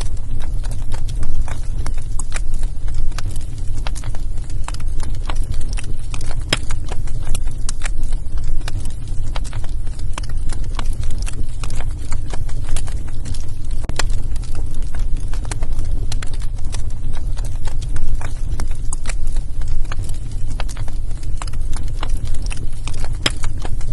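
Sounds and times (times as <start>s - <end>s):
low fire rumble: 0.0s - 23.9s
wood fire crackling and popping: 0.0s - 23.9s.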